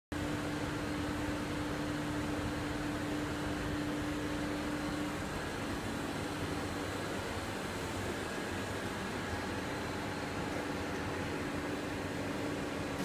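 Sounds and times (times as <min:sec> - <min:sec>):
machine fan and motor hum: 0:00.1 - 0:13.0.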